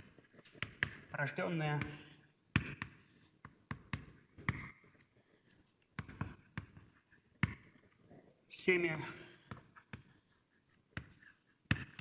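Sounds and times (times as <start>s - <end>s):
writing taps and scratches: 0.0s - 12.0s.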